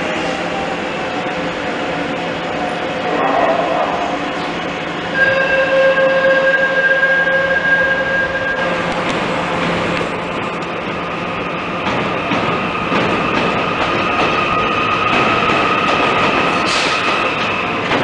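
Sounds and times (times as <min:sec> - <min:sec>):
electric train whine: 0:00.0 - 0:18.0.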